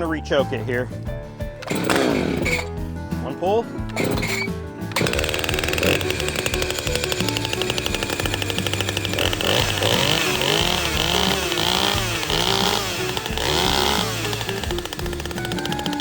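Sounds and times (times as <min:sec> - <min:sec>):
chainsaw rattling idle: 0:01.6 - 0:02.8, 0:03.9 - 0:16.0
chainsaw revving: 0:01.6 - 0:02.8, 0:03.9 - 0:16.0.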